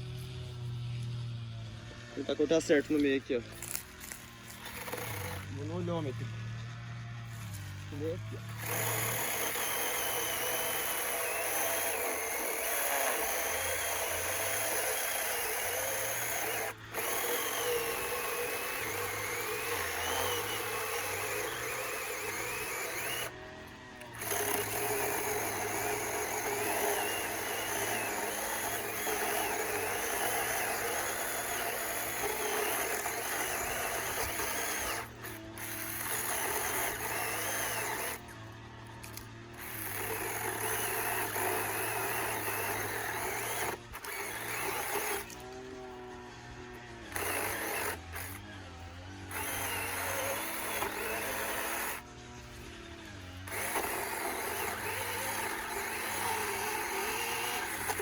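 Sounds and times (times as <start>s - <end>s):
electric chainsaw cutting log: 0.0s - 58.0s.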